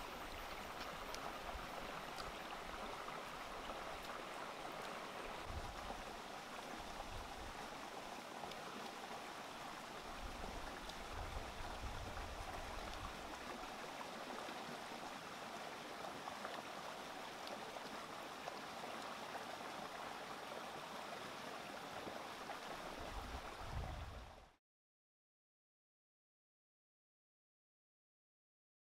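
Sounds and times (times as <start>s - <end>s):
stream rushing over rocks: 0.0s - 24.4s.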